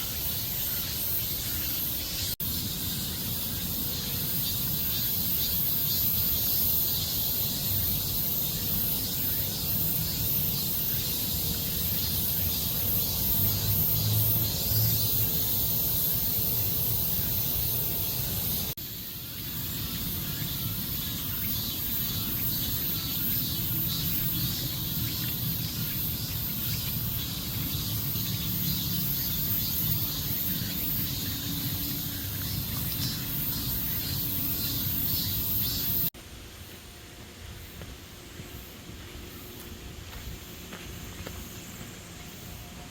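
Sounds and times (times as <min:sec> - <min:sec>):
insects droning and chirping: 0:00.0 - 0:42.9.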